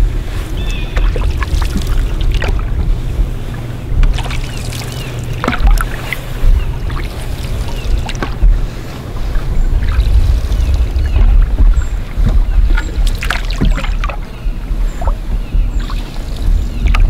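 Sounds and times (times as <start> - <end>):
low rumble: 0.0 - 17.0
paddle strokes through water: 0.0 - 17.0.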